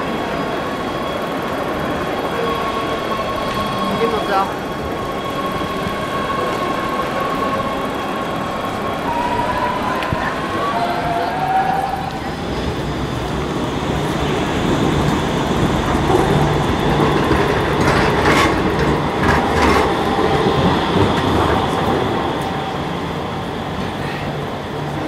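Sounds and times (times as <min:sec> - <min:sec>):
rail clacks: 0:00.0 - 0:25.0
tram rumbling on rails: 0:00.0 - 0:25.0.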